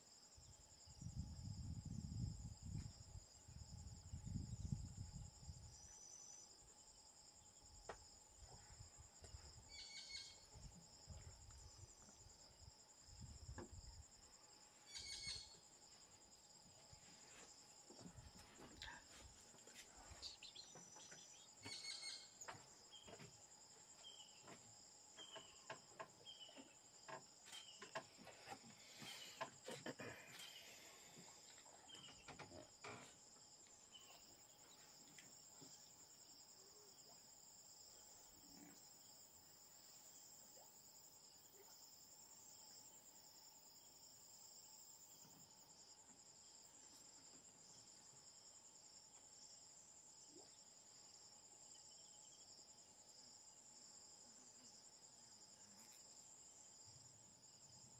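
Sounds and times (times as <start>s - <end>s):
high-pitched insect chorus: 0.0s - 57.9s.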